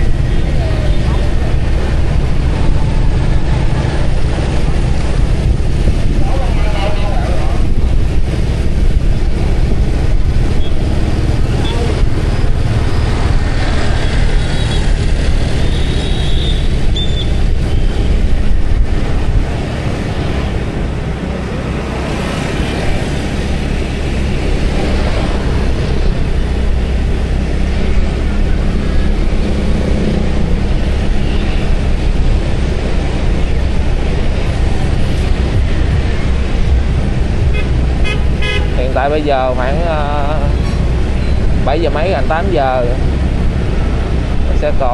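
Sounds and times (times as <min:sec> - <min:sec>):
motorbike engine rumble: 0:00.0 - 0:44.9
scooter traffic: 0:00.0 - 0:44.9.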